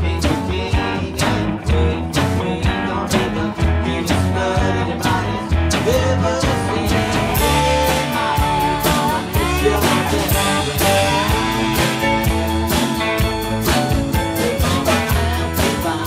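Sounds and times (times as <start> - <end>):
drums steady beat: 0.0 - 16.0
sliding lead guitar line: 0.0 - 16.0.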